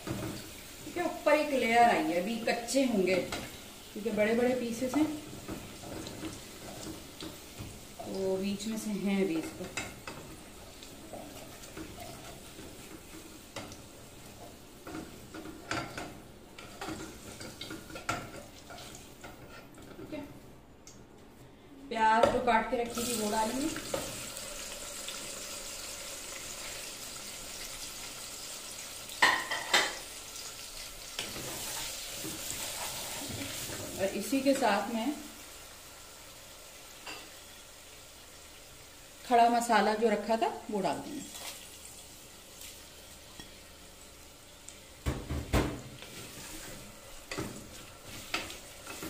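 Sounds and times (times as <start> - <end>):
onions sizzling in hot oil: 0.0 - 19.4, 22.9 - 49.0.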